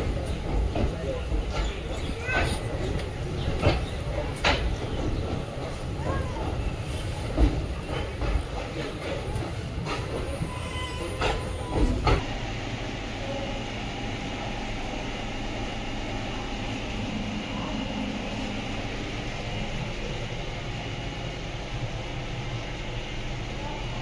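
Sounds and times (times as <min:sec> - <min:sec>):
train coach rumbling on track: 0:00.0 - 0:24.0.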